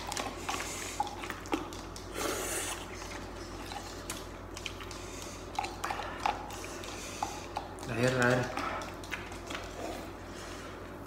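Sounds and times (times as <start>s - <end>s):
mouth clicks and smacks eating: 0.0s - 10.3s
noodle slurping: 0.0s - 10.6s.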